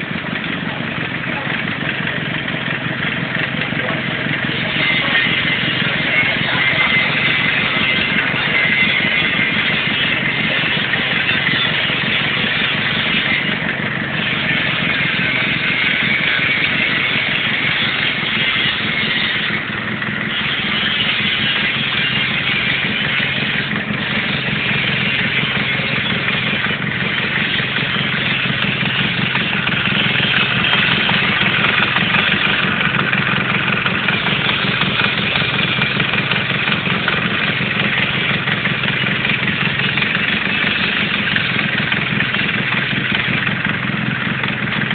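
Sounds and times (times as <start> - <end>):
car engine running steadily: 0.0 - 44.9.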